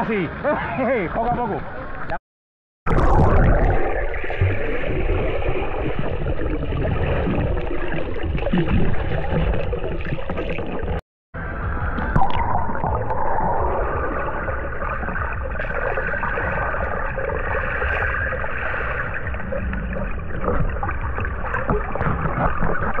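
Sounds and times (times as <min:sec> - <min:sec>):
muffled underwater bubbling: 0:02.9 - 0:11.0, 0:12.0 - 0:23.0.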